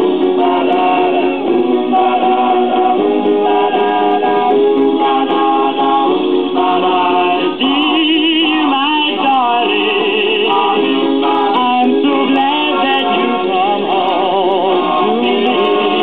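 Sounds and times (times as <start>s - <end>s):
vocal group record on old phonograph: 0.0s - 16.0s.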